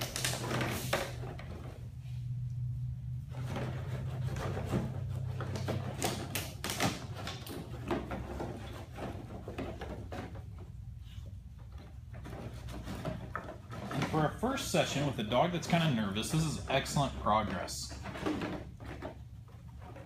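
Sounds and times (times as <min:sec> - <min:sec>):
plastic bottles crinkling and clattering: 0:00.0 - 0:01.8, 0:03.4 - 0:10.8, 0:11.7 - 0:20.0
steady low hum: 0:00.0 - 0:20.0.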